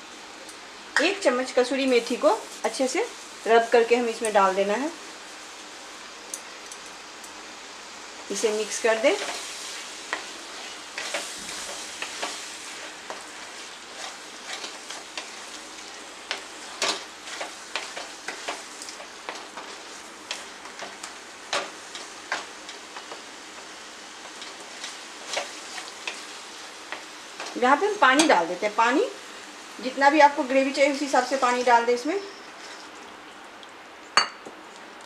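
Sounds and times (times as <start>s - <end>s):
curry sizzling in oil: 0.0s - 34.8s.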